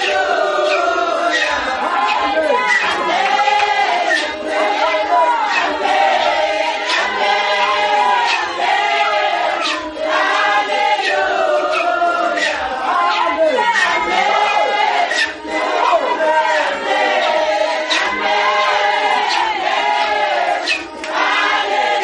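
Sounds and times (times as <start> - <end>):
congregation singing: 0.0 - 22.0.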